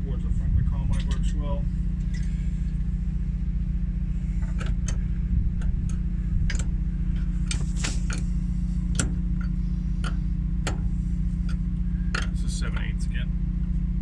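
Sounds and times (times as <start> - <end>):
low mechanical drone: 0.0 - 14.0.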